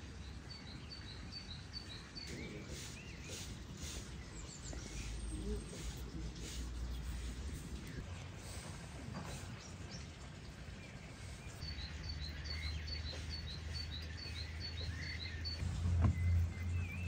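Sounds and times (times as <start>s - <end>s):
songbird chirping: 0.0s - 17.0s
low outdoor rumble: 2.2s - 17.0s.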